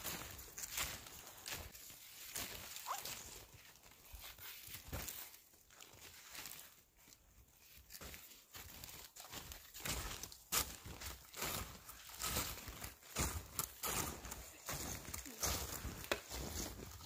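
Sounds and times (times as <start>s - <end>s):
footsteps crunching in deep snow: 0.0s - 17.0s.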